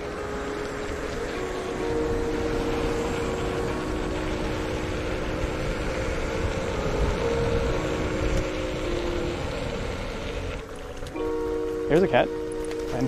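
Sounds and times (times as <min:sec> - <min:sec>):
wind rush on microphone: 0:00.0 - 0:11.0
faint held tones: 0:00.0 - 0:13.0
wheels rumbling on road: 0:00.0 - 0:13.0.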